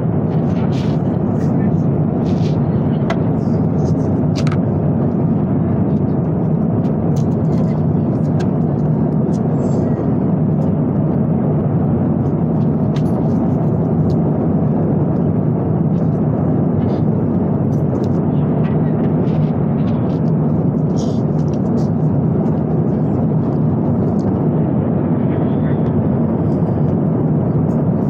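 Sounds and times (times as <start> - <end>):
jet airliner cabin hum: 0.0 - 28.0.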